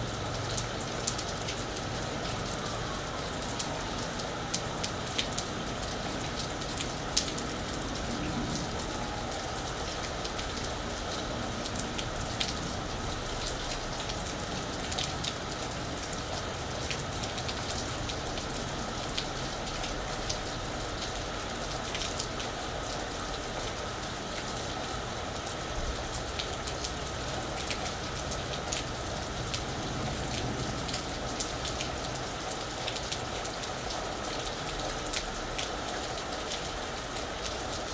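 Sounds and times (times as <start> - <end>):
rain falling on a roof: 0.0 - 37.9.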